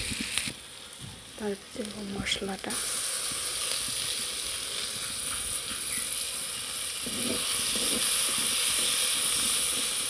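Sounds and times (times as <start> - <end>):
oil sizzling in a pan: 0.0 - 10.0.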